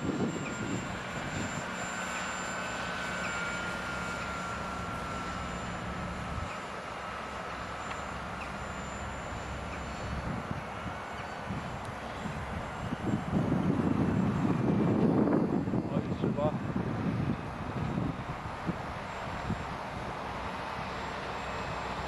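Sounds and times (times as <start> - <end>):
electric motor whine: 0.0 - 22.0
low hum: 0.0 - 22.0.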